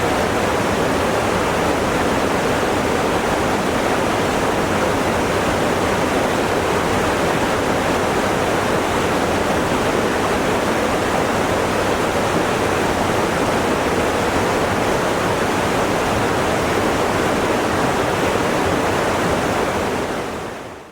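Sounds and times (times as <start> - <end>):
rushing water: 0.0 - 20.9.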